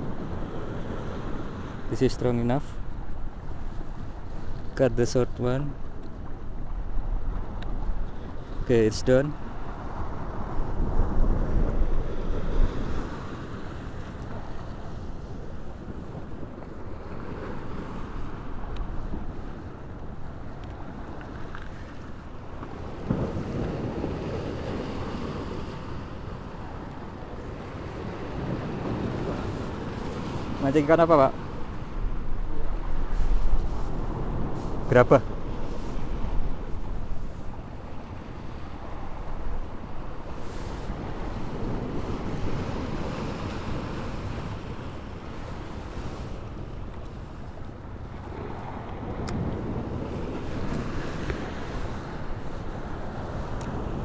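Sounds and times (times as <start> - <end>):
wind buffeting microphone: 0.0 - 54.0
sea washing against rocks: 8.4 - 54.0.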